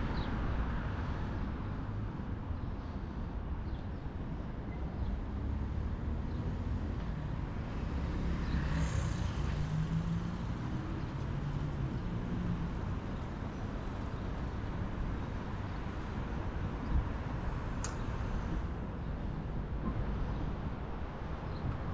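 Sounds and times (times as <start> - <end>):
road traffic rumble: 0.0 - 21.9.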